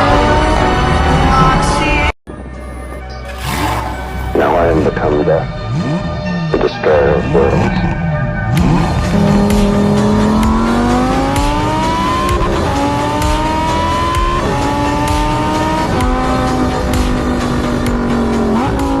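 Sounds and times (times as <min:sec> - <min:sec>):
car engine accelerating: 0:00.0 - 0:02.1, 0:03.2 - 0:19.0.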